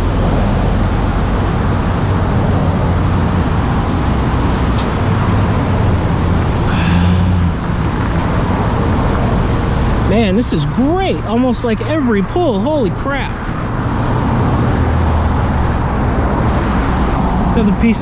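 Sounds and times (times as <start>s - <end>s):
low engine hum: 0.0s - 18.0s
road traffic noise: 0.0s - 18.0s.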